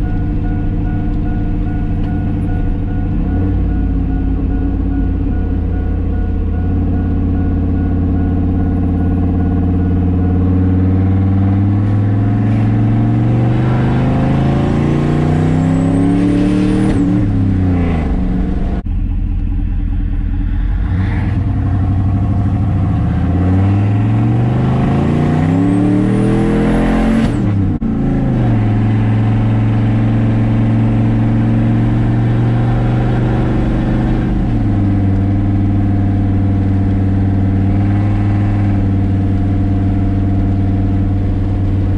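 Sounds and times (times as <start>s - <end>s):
pickup engine accelerating: 0.0s - 41.9s.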